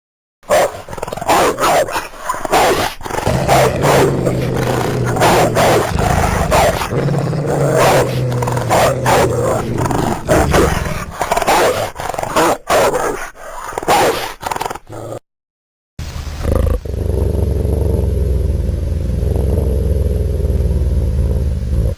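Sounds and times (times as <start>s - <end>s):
wolf growling: 0.5s - 15.2s, 16.5s - 21.9s.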